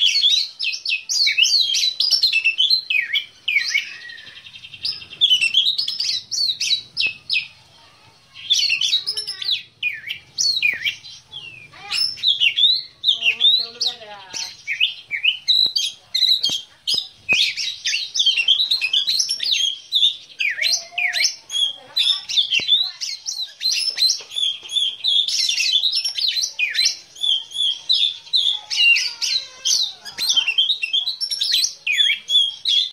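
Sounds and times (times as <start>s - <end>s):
bird singing whistles and trills: 0.0s - 7.6s, 8.4s - 32.9s.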